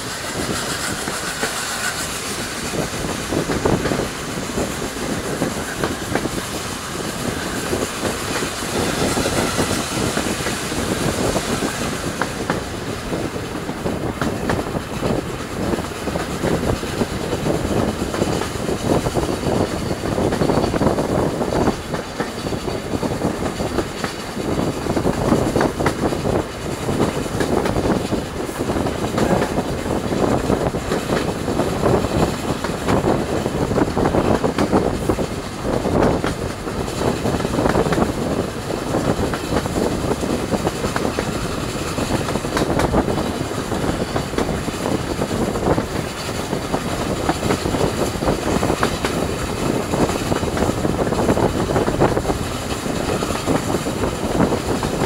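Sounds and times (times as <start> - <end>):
train wheels rumbling on track: 0.0 - 55.0
wind buffeting microphone: 0.0 - 55.0.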